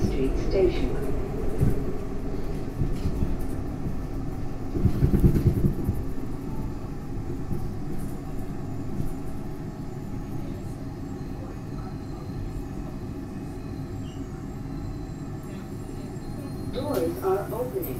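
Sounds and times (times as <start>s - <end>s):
elevated train rumble: 0.0s - 17.9s.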